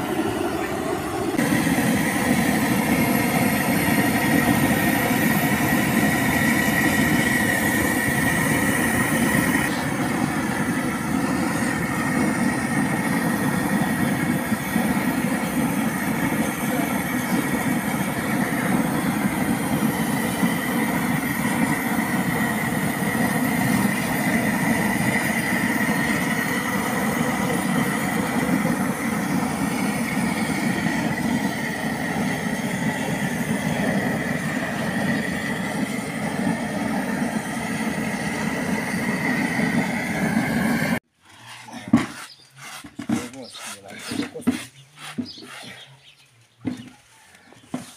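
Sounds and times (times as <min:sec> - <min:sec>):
gas torch roaring: 0:00.0 - 0:41.1.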